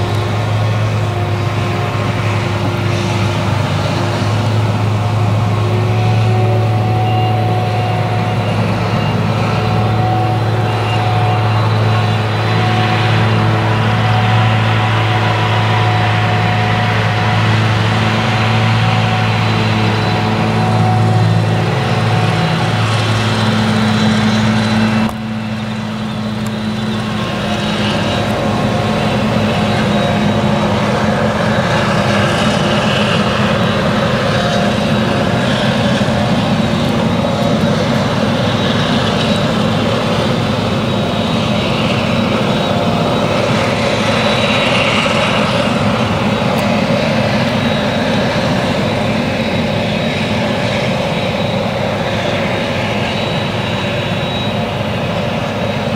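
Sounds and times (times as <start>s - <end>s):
harvester engine drone: 0.0s - 55.9s
tractor running: 0.0s - 55.9s.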